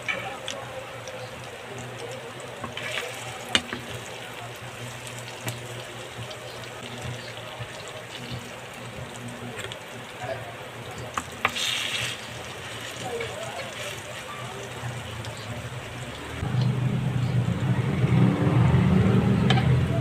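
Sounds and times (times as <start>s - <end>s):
food sizzling in oil: 0.0s - 16.5s.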